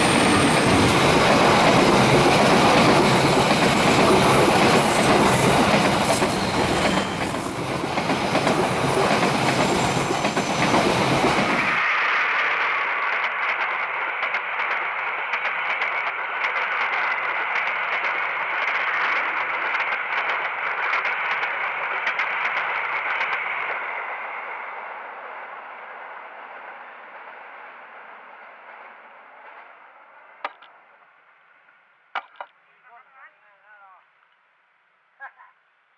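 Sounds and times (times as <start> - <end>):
train wheels rattling over track: 0.0 - 30.8.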